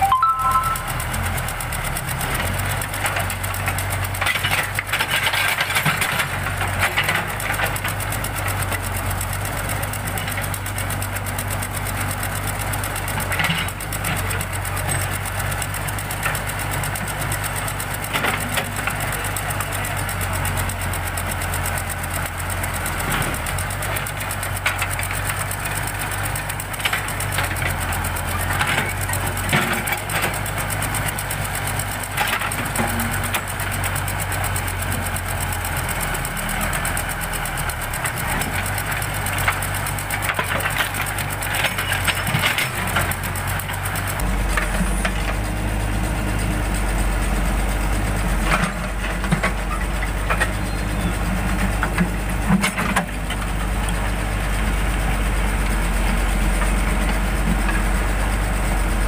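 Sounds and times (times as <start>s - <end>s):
backhoe diesel engine: 0.0s - 59.0s.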